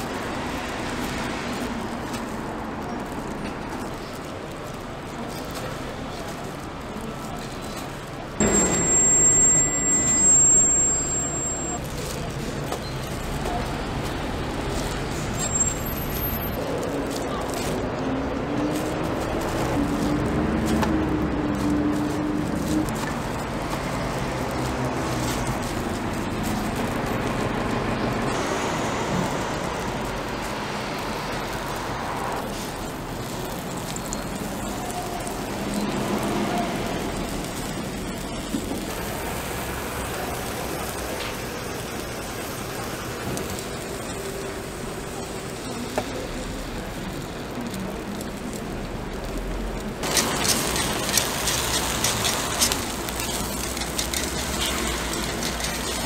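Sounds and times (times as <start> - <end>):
batter sizzling on griddle: 0.0 - 56.0
street market background noise: 0.0 - 56.0.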